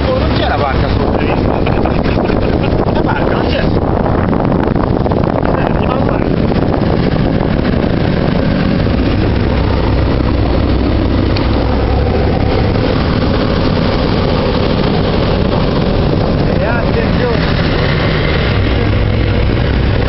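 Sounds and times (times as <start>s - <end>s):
heavy machinery engine rumble: 0.0s - 20.0s.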